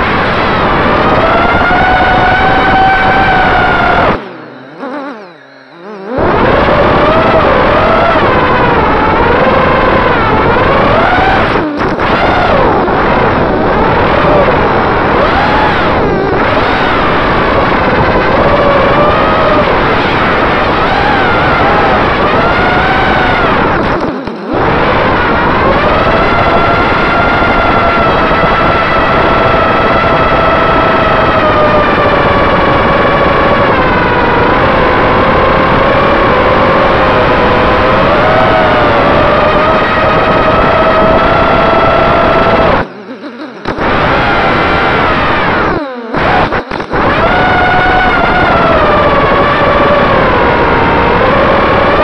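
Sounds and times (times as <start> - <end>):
wind noise: 0.0 - 52.0
quadcopter motors whining: 0.7 - 52.0.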